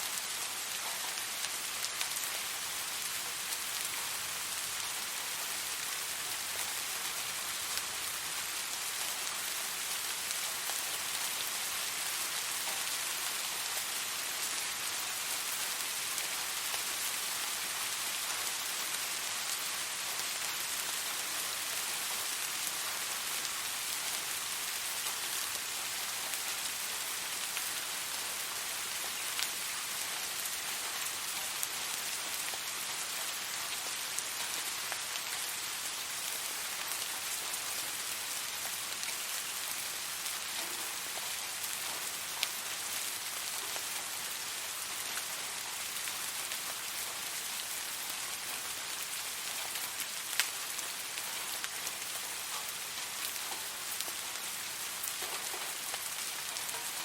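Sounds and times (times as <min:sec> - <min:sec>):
raindrops striking nearby: 0:00.0 - 0:57.0
steady rain hiss: 0:00.0 - 0:57.0.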